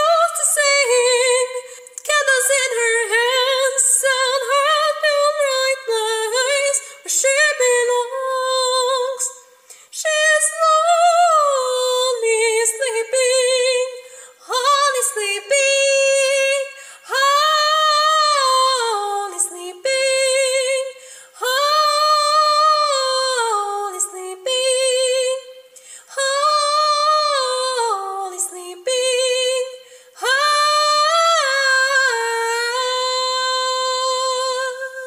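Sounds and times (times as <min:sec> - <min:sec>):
woman singing a cappella: 0:00.0 - 0:35.0.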